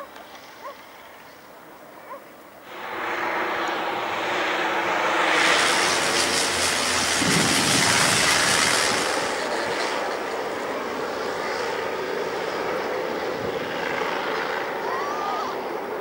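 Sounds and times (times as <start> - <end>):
propeller plane engine droning overhead: 0.0 - 16.0.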